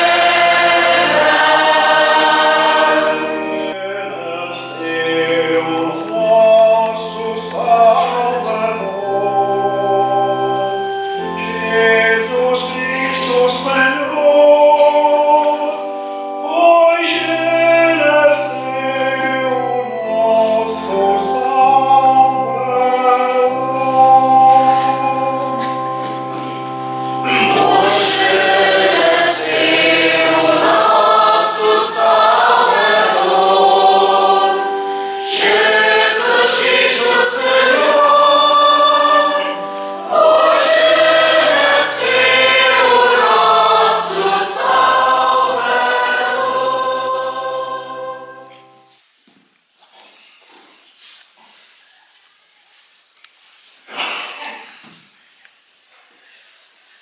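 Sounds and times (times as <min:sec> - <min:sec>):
choir singing a hymn: 0:00.0 - 0:48.9
instrumental accompaniment: 0:00.0 - 0:49.0.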